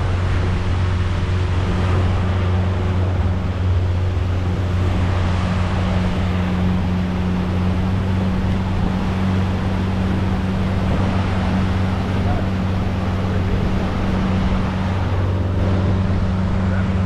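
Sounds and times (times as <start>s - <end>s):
boat motor humming: 0.0s - 17.0s
rush of wind and water: 0.0s - 17.0s.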